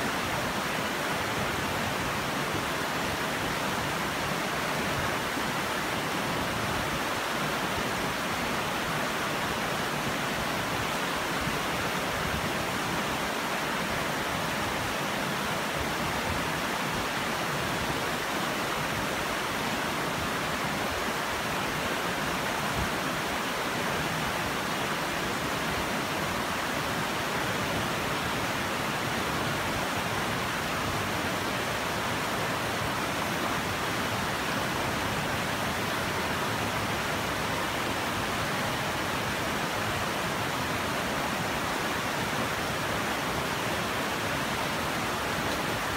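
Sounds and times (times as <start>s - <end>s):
river rushing over stones: 0.0s - 45.9s.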